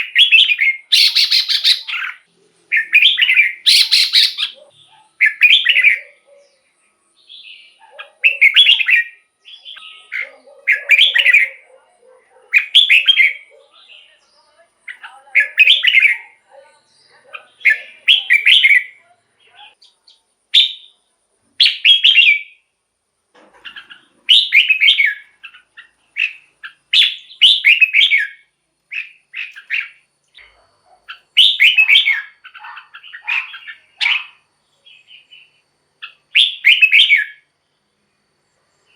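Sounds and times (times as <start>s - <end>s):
bird singing warbled phrases: 0.0s - 22.8s, 23.6s - 37.8s.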